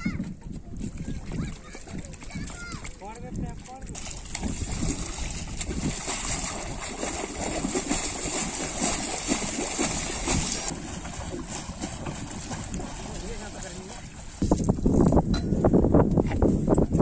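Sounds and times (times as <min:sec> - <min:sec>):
water splashing and churning: 0:00.0 - 0:15.3.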